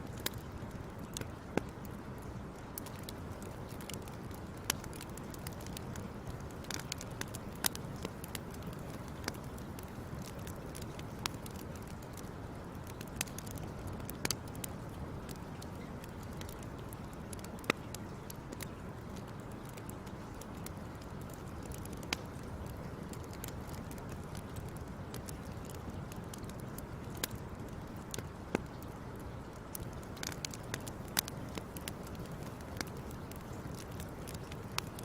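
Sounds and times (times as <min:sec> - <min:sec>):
sharp pops and snaps of fire: 0:00.0 - 0:35.0
wood fire crackling: 0:00.0 - 0:35.0.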